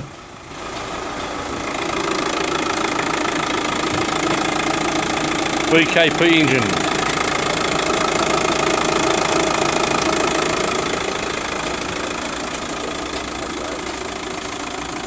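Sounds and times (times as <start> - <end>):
diesel engine idling with clatter: 0.0 - 15.0.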